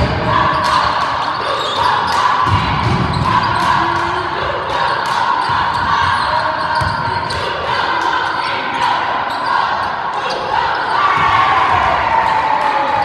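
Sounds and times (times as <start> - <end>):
murmur of spectators chatting: 0.0 - 13.0.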